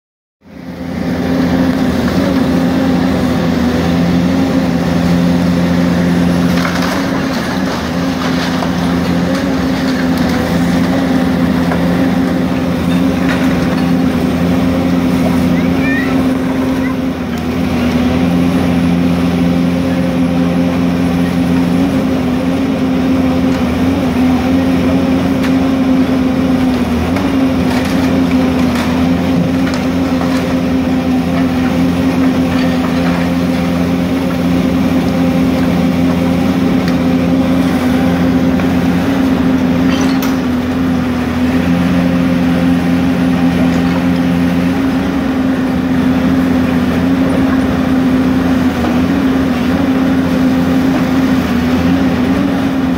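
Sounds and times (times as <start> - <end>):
excavator diesel engine running: 0.4 - 52.9.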